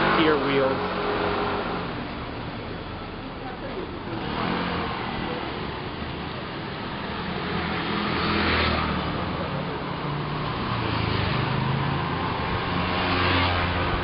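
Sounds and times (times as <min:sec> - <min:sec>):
motor vehicles passing close: 0:00.0 - 0:14.0.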